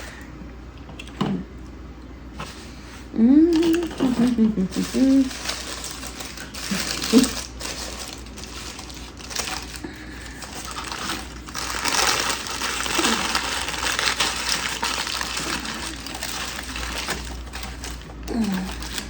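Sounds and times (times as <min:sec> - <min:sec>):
paper wrappers rustling: 0:03.5 - 0:19.0.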